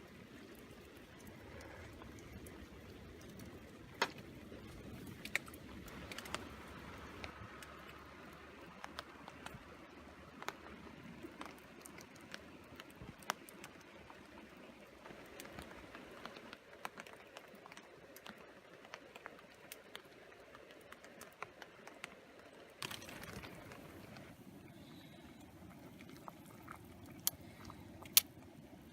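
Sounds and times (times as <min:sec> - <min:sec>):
raindrops tapping on a tarp: 0:00.0 - 0:24.4
steady hiss of rain: 0:00.0 - 0:28.9.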